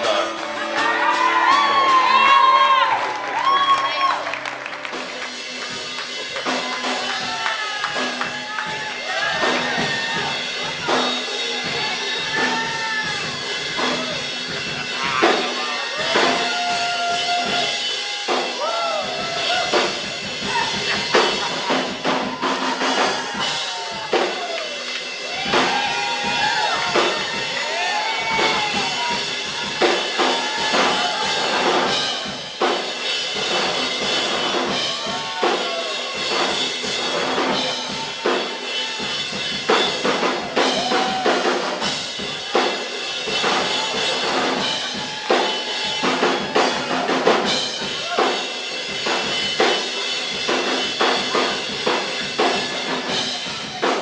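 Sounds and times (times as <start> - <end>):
drum kit rock beat: 0.0 - 54.0.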